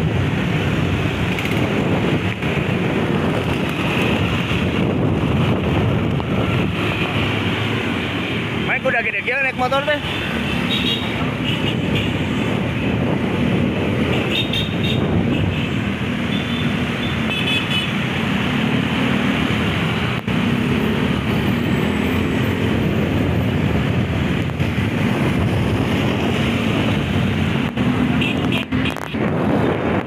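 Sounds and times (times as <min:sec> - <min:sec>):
traffic on wet road: 0:00.0 - 0:30.0.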